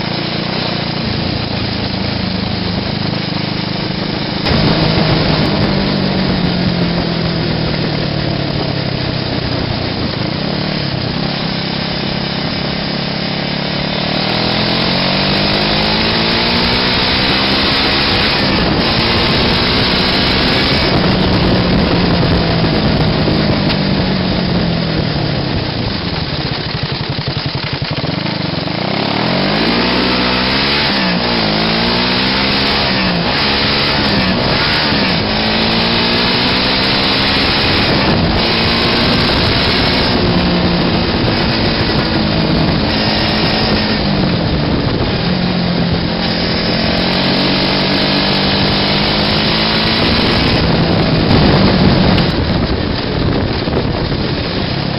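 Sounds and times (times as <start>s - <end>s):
buggy engine running: 0.0s - 54.9s.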